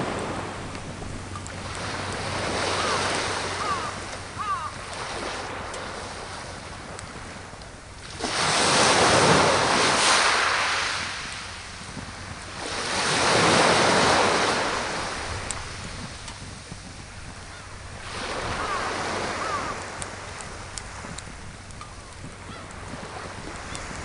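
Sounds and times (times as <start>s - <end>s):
sea waves breaking on shore: 0.0s - 24.0s.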